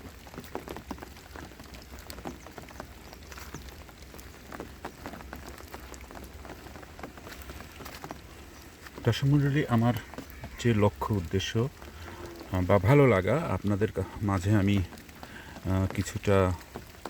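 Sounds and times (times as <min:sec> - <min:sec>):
raindrops pattering: 0:00.0 - 0:17.0.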